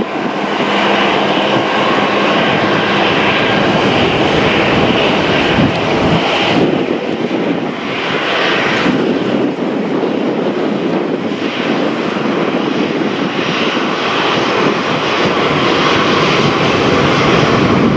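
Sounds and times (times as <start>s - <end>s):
jet engines at takeoff power: 0.0s - 17.9s.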